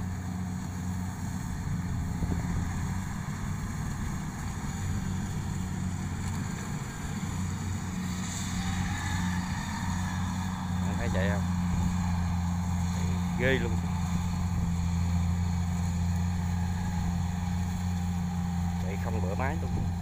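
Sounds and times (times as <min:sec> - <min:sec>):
combine harvester diesel engine: 0:00.0 - 0:20.0.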